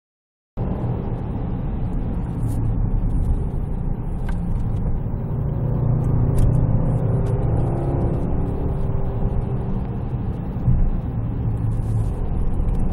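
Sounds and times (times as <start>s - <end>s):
car cabin engine and road rumble: 0.6s - 12.9s.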